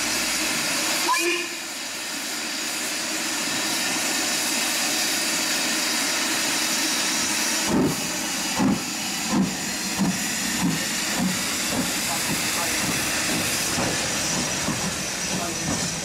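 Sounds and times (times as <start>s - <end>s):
steam hissing: 0.0s - 16.0s
steam engine exhaust chuffs: 1.7s - 16.0s.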